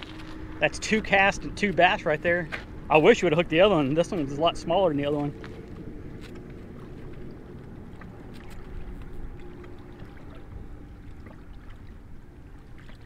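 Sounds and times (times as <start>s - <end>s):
waves lapping against rocks: 0.0s - 13.0s.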